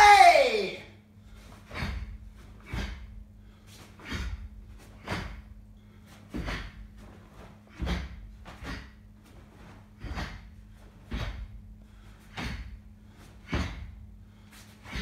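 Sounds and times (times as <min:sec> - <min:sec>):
forceful exhalations: 0:01.3 - 0:15.0.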